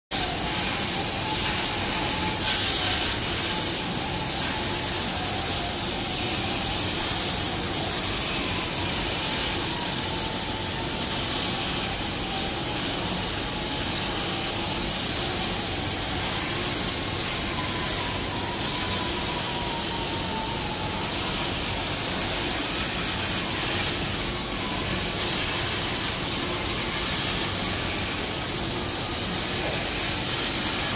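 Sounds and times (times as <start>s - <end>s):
plasma cutter hissing: 0.1s - 30.9s.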